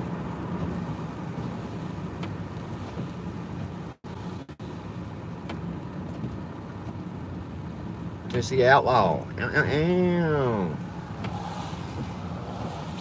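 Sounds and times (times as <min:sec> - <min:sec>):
car engine hum inside cabin: 0:00.0 - 0:13.0.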